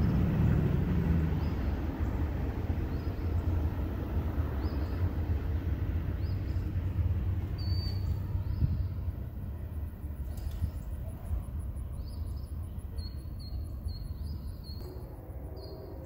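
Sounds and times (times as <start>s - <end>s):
distant freight train rumbling: 0.0s - 16.0s.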